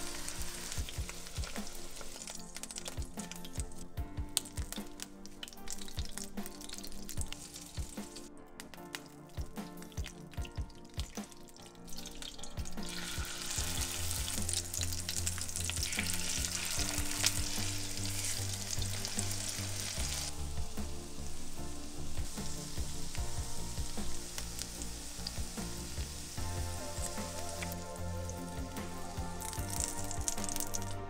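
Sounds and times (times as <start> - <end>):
cutlets sizzling in oil: 0.0 - 8.3, 10.9 - 30.9.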